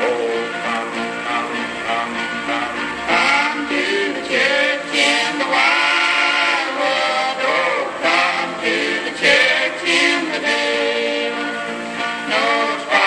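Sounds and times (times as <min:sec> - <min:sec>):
voices singing in harmony: 0:00.0 - 0:13.0.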